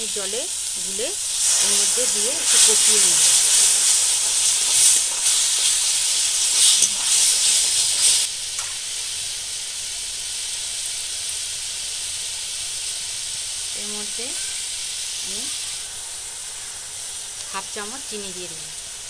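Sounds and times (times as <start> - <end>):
spice paste sizzling in oil: 0.0 - 19.0.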